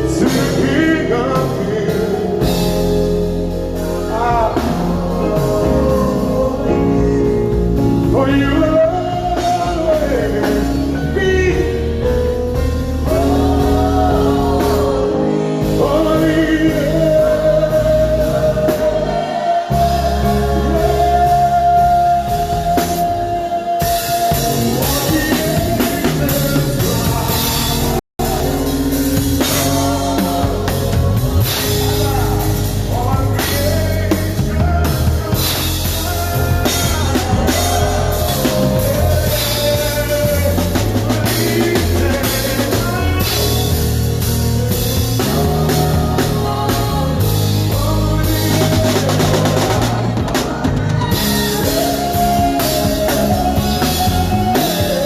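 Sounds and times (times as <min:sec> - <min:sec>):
drum kit: 0:00.0 - 0:55.0
heavy bass: 0:00.0 - 0:55.0
live band playing: 0:00.0 - 0:55.0.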